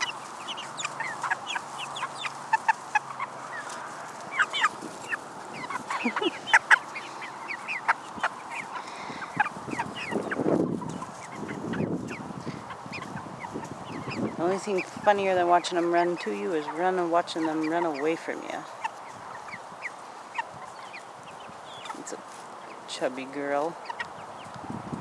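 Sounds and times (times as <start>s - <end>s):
chickens peeping and clucking: 0.0s - 25.0s.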